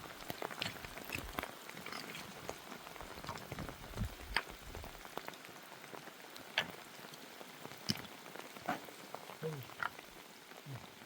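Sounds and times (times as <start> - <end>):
rain falling: 0.0 - 11.0
sharp drips and ticks: 0.0 - 11.0.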